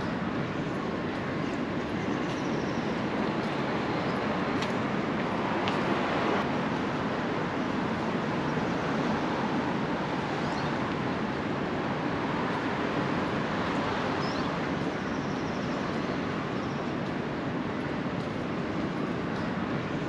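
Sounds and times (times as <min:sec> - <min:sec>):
distant traffic noise: 0:00.0 - 0:20.0.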